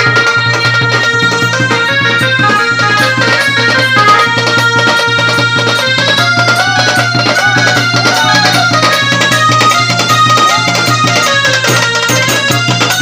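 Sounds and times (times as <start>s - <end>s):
banjo melody: 0.0s - 13.0s
fast percussion hits: 0.0s - 13.0s.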